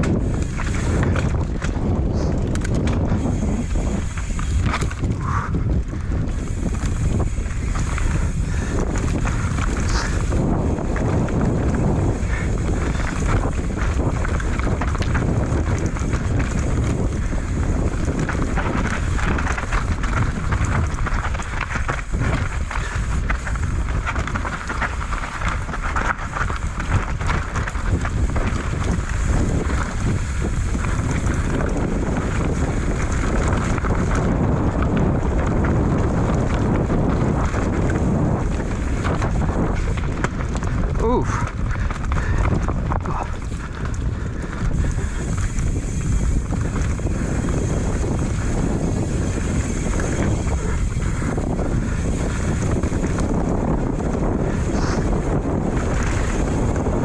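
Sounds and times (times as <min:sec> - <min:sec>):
bike rattling over dirt trail: 0:00.0 - 0:57.0
wind buffeting microphone: 0:00.0 - 0:57.0.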